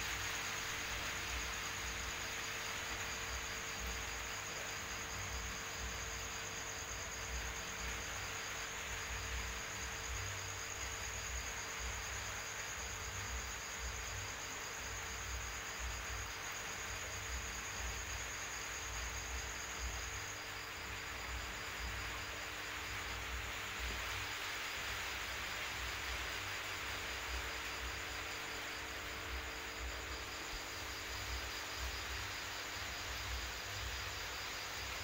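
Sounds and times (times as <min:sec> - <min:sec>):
crickets trilling: 0:00.0 - 0:35.0
steady hiss: 0:00.0 - 0:35.0.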